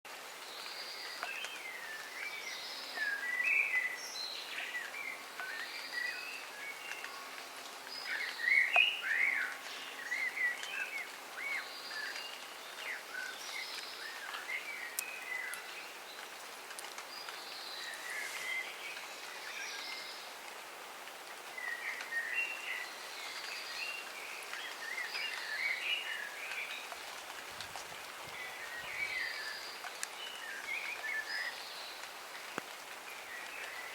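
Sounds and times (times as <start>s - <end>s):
light rain falling: 0.1s - 33.9s
songbirds chirping: 0.1s - 33.9s.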